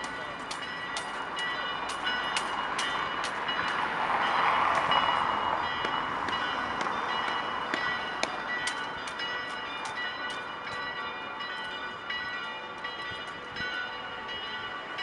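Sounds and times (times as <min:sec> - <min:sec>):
bells ringing: 0:00.0 - 0:15.0.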